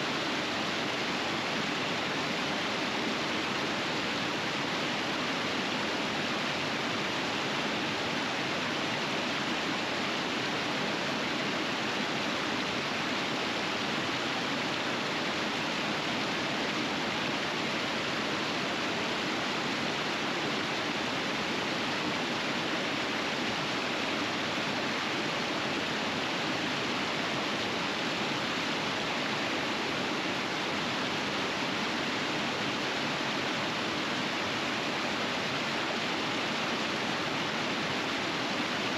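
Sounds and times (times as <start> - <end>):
river rapids rushing: 0.0 - 38.9.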